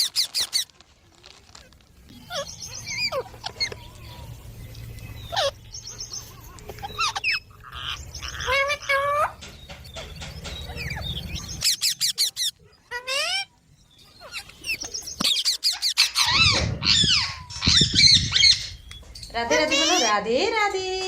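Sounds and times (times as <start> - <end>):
parrot chirping: 2.1 - 20.1.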